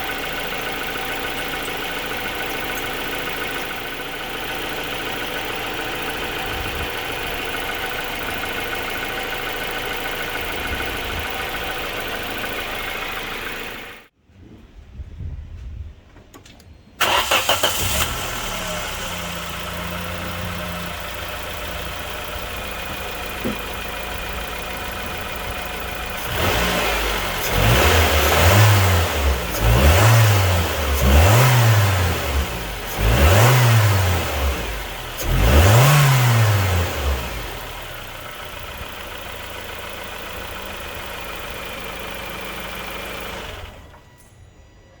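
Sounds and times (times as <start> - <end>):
car engine starting and revving: 0.0 - 14.1, 17.0 - 44.0.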